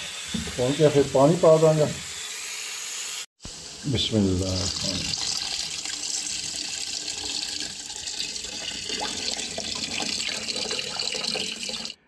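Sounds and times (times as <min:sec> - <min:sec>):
chicken sizzling in hot oil: 0:00.0 - 0:10.3.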